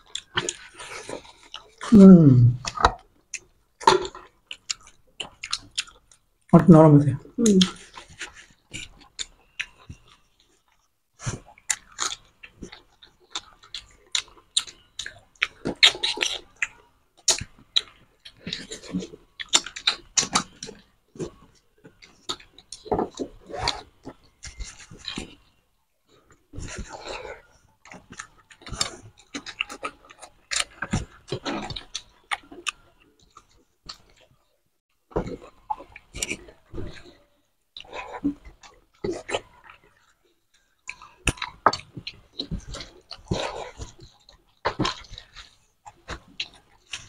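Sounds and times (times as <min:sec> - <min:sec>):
people chewing with lip smacks: 0:00.0 - 0:06.6, 0:07.3 - 0:47.0.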